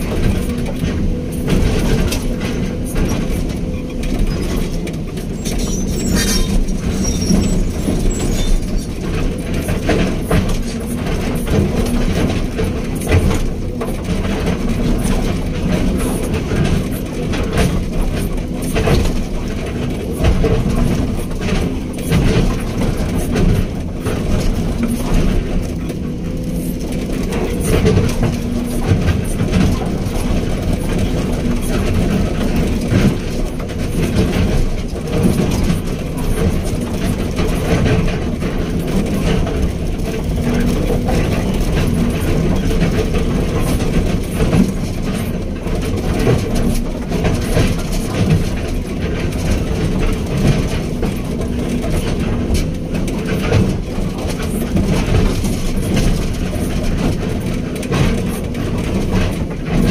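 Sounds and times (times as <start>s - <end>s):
diesel engine running under load: 0.0s - 59.9s
machine rattles and knocks: 0.0s - 59.9s.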